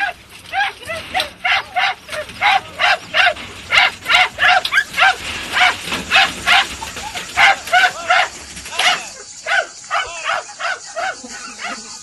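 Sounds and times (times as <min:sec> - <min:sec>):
dogs yelping: 0:00.0 - 0:12.0.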